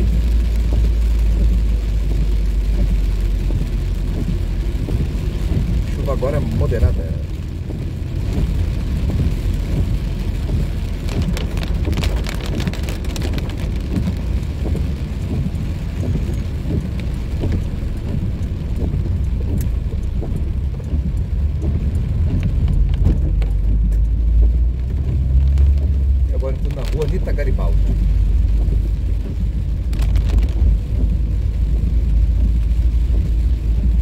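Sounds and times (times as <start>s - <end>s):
rain pattering on car roof: 0.0s - 34.0s
tyres rumbling on wet road: 0.0s - 34.0s.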